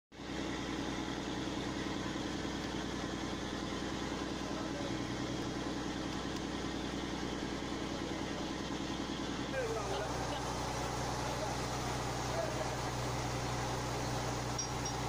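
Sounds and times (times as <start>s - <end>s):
boat engine droning: 0.2s - 15.0s.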